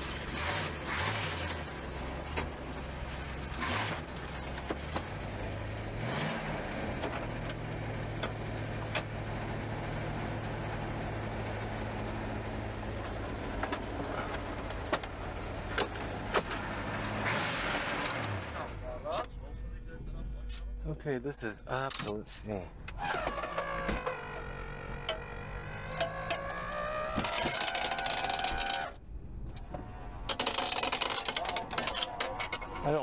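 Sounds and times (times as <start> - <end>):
car engine idling: 1.5 - 6.0, 6.8 - 17.2, 17.9 - 33.0.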